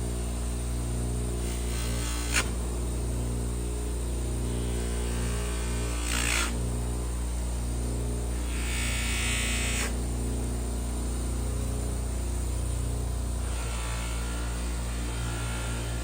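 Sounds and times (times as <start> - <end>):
small electric motor humming: 0.0 - 16.0.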